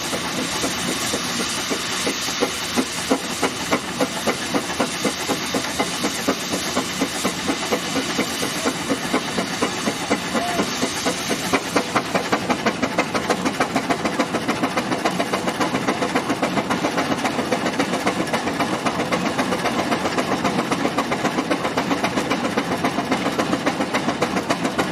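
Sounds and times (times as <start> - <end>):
steam engine beating rhythmically: 0.0 - 24.9
steam hissing: 0.0 - 24.9.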